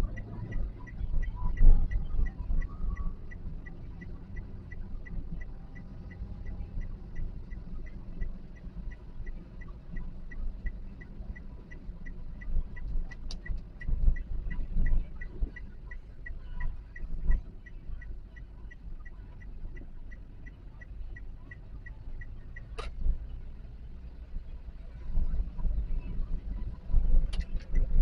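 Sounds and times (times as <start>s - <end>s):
car indicator ticking: 0.0s - 28.0s
engine and road rumble: 0.0s - 28.0s.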